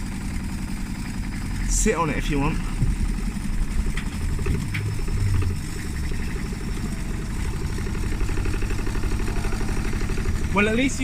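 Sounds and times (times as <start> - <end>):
washing machine spinning: 0.0 - 11.0.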